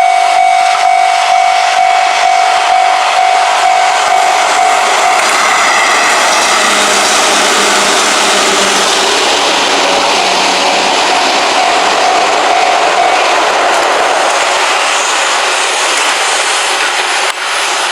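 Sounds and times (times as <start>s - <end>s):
electric train wheels on rails: 0.0s - 17.9s.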